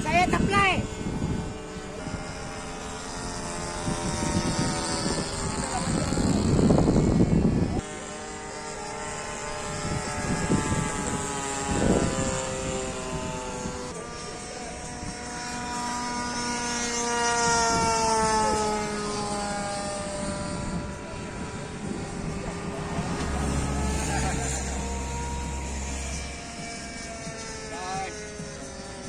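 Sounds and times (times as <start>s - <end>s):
model plane engine droning: 0.0s - 29.0s.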